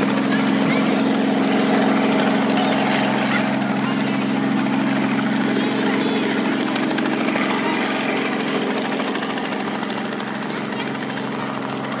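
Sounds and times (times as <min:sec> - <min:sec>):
helicopter engine drone: 0:00.0 - 0:12.0
helicopter rotor chop: 0:00.0 - 0:12.0.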